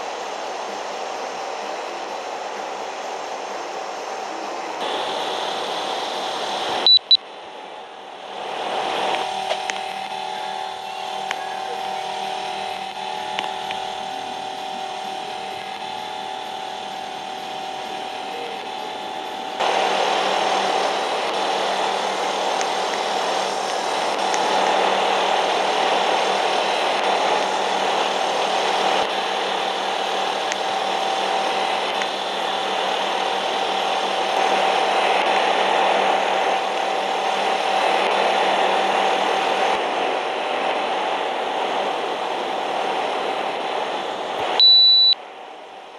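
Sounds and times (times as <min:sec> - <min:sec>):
air conditioner humming and whining: 0:00.0 - 0:45.9
rush of air: 0:00.0 - 0:45.9.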